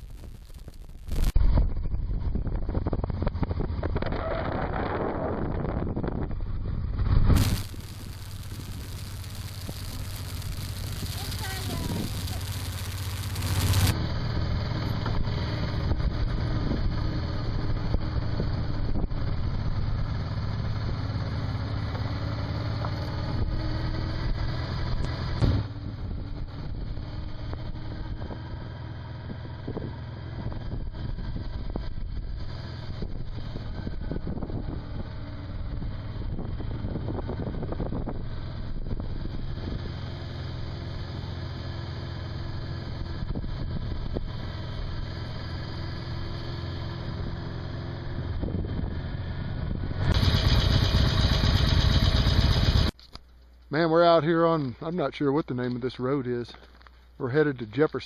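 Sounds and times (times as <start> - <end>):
motorcycle engine hum: 0.0 - 53.7
wind and road noise: 0.0 - 58.0.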